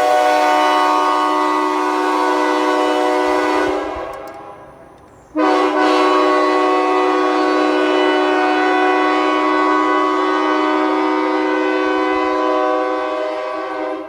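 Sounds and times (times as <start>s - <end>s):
locomotive air horn chord: 0.0s - 14.0s.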